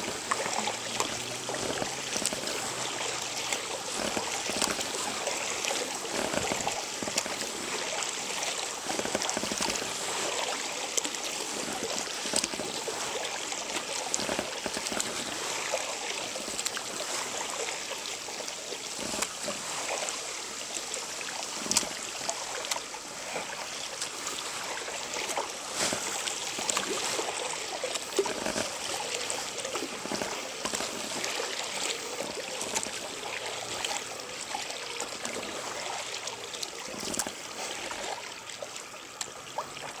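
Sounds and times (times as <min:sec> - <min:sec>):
kayak paddle pulling through water: 0:00.0 - 0:40.0
water splashing and trickling: 0:00.0 - 0:40.0.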